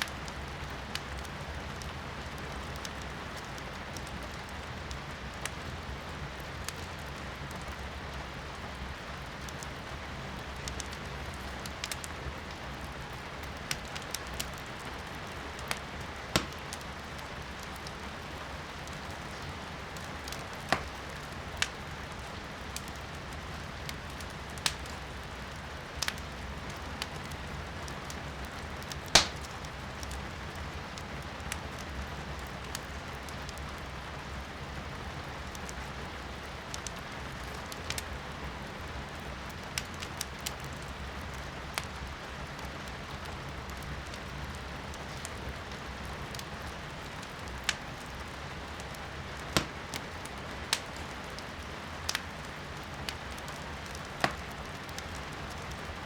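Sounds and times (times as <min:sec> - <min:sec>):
firewood crackling and popping: 0:00.0 - 0:56.0.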